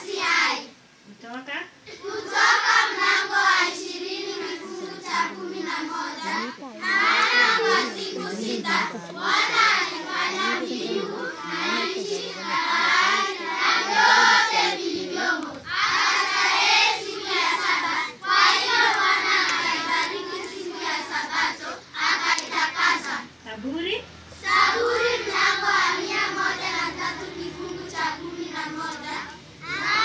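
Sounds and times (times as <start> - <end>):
girls singing in chorus: 1.9 - 23.3, 24.4 - 30.0.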